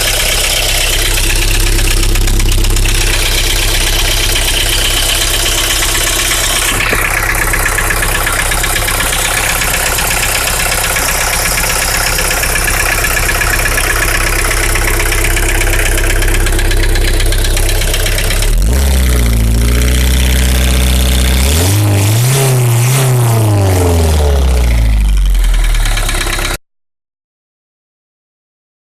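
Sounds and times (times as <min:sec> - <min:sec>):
diesel engine idling with knock: 0:00.0 - 0:26.6
engine revving: 0:00.0 - 0:26.6.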